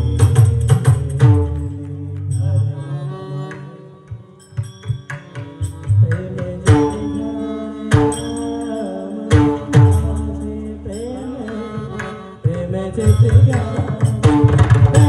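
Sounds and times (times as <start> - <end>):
hand drum strokes: 0.0 - 2.8, 3.5 - 15.0
steady held notes: 0.0 - 15.0.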